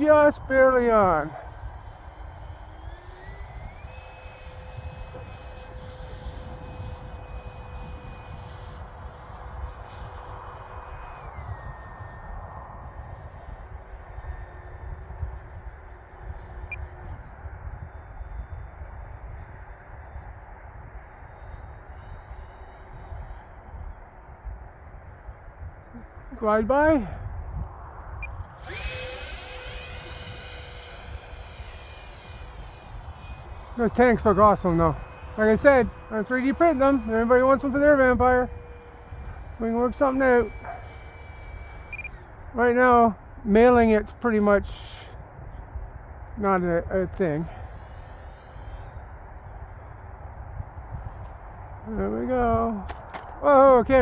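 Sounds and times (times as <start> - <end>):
electric ducted fan whine: 0.0 - 54.0
wind rumbling on microphone: 0.0 - 54.0.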